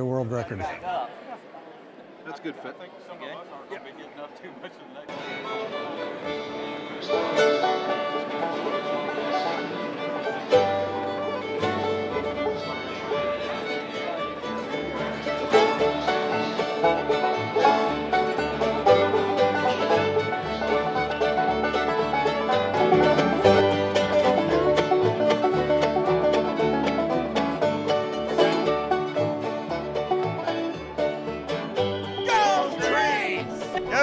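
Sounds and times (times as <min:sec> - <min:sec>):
bluegrass string band music: 0:05.1 - 0:34.0.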